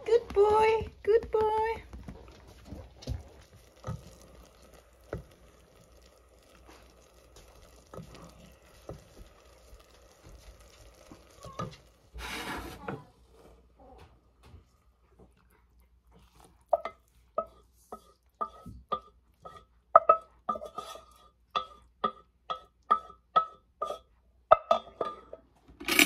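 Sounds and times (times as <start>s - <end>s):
utensil stirring noodles in pot: 0.0s - 13.0s, 14.4s - 26.0s.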